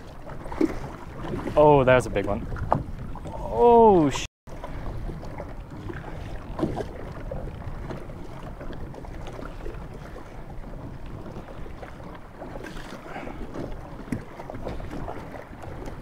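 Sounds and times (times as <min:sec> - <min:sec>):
waves slapping against a kayak: 0:00.0 - 0:16.0
wind buffeting microphone: 0:00.0 - 0:16.0.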